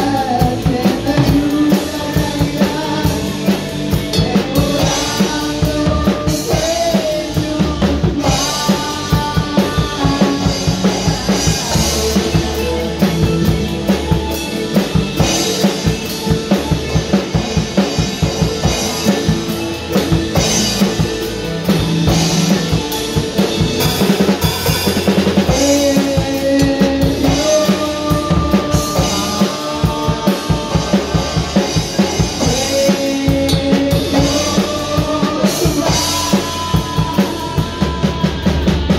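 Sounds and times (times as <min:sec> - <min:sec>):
drum kit with cymbals: 0:00.0 - 0:38.9
electric and acoustic guitars: 0:00.0 - 0:38.9
person singing: 0:00.0 - 0:38.9.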